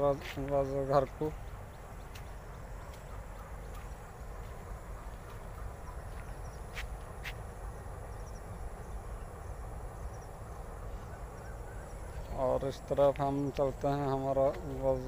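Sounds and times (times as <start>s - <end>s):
faint insects chirping: 0.0s - 15.0s.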